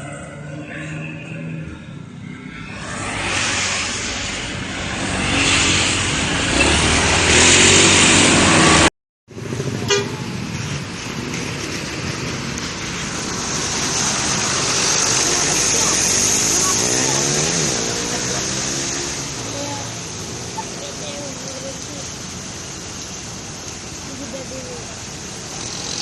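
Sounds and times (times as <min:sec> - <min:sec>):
bus passing: 0:00.0 - 0:26.0
traffic noise: 0:00.0 - 0:26.0.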